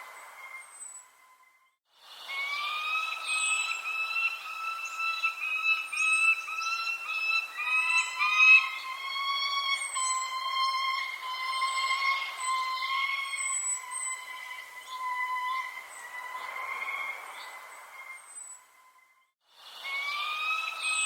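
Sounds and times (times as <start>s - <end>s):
high down-slurred bird chirps: 0.0s - 19.3s
repeated whistled bird notes: 0.0s - 21.0s.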